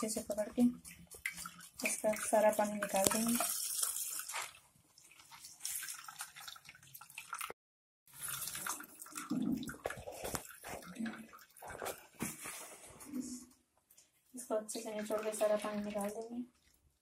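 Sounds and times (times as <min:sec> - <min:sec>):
liquid trickling and dripping: 0:00.0 - 0:17.0.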